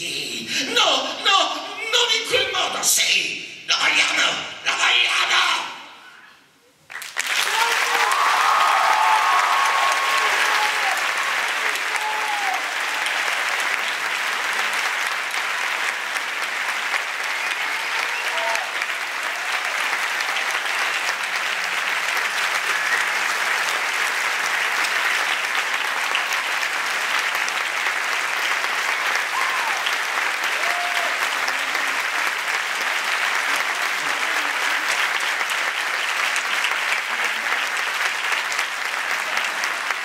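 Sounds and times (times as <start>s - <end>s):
audience applauding: 6.9s - 40.0s.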